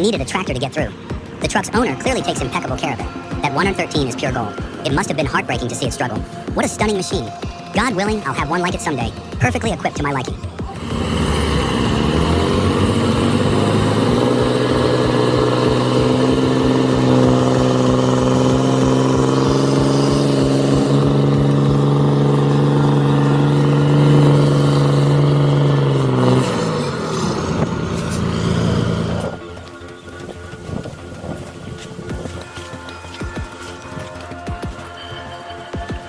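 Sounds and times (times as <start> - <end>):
large vehicle engine revving: 0.0 - 36.0.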